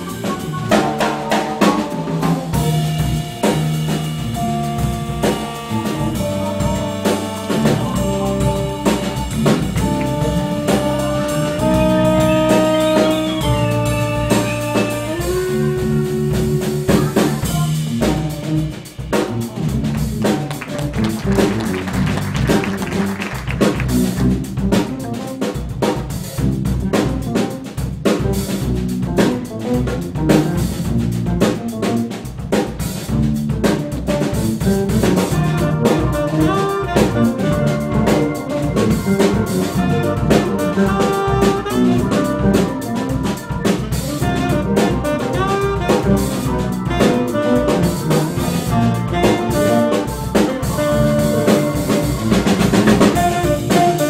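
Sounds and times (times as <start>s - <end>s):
small jazz band playing: 0.0s - 54.0s
snare rimshots and bass drum: 0.0s - 54.0s.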